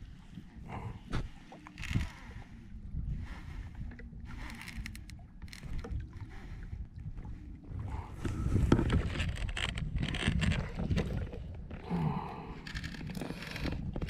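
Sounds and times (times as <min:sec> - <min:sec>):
water sloshing against a kayak: 0:00.0 - 0:14.0.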